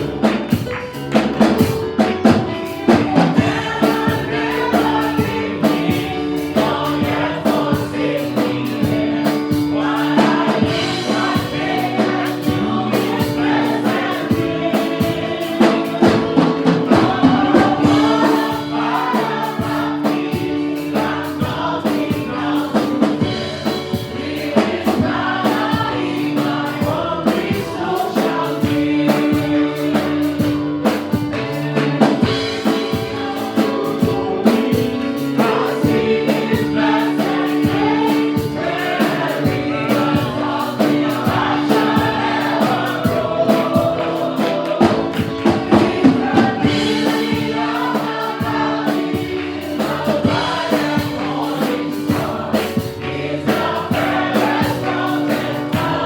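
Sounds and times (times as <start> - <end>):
band with steady drum beat: 0.0 - 56.0
choir singing: 0.0 - 56.0.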